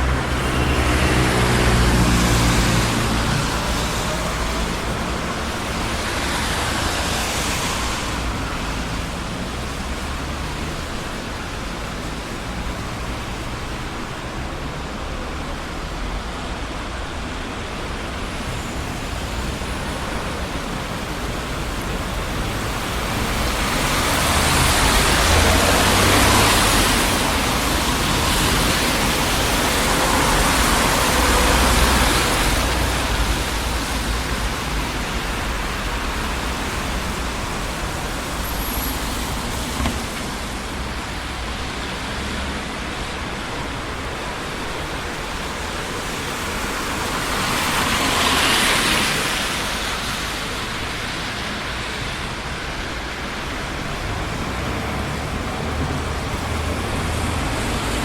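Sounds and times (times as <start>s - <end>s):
street traffic: 0.0s - 58.0s
vehicles passing close by: 0.0s - 58.0s.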